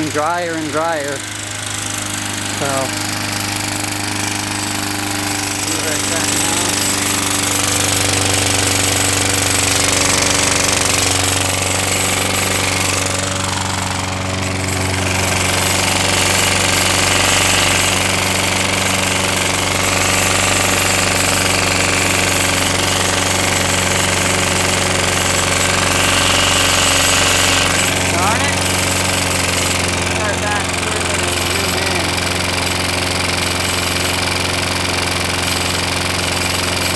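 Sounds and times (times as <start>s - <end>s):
lawn mower engine running: 0.0s - 36.9s.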